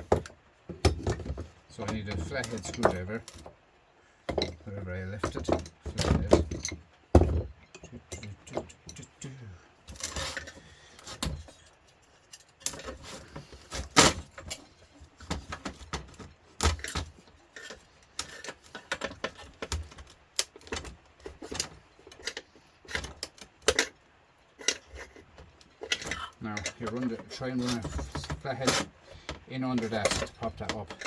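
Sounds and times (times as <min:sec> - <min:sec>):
metal tools clinking: 0:00.9 - 0:03.5, 0:04.3 - 0:06.9, 0:07.6 - 0:09.3, 0:09.9 - 0:14.8, 0:15.8 - 0:24.0, 0:24.6 - 0:31.0.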